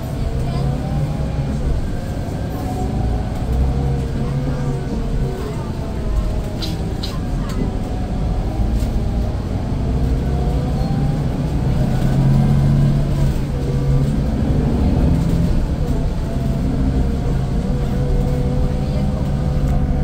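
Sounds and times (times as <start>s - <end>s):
coach diesel engine running: 0.0s - 20.0s.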